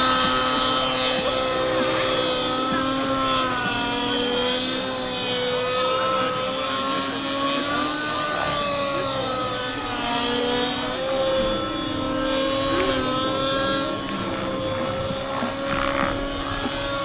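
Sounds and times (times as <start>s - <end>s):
model helicopter engine and rotor: 0.0s - 17.0s.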